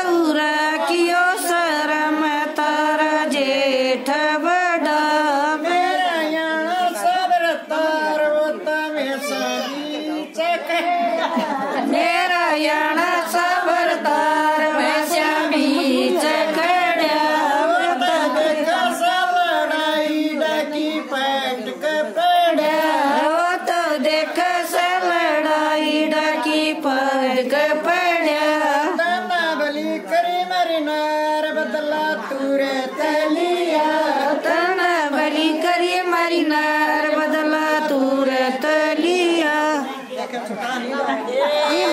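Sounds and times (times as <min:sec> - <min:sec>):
women singing together: 0:00.0 - 0:41.9.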